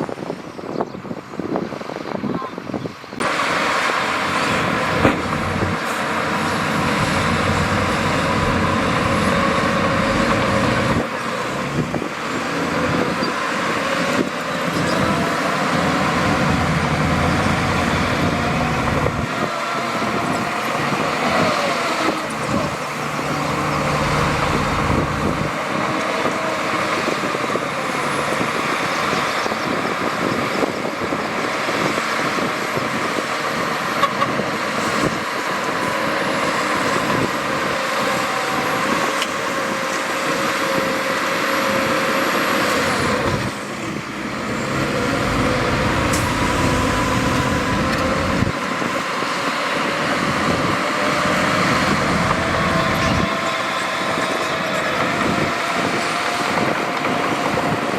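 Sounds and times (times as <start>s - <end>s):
diesel machinery engine revving: 3.2s - 57.9s.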